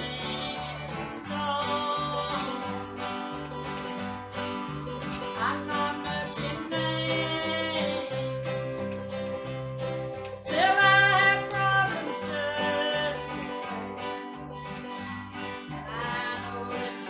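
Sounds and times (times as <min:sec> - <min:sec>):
electric bass walking line: 0:00.0 - 0:17.0
strummed acoustic guitar: 0:00.0 - 0:17.0.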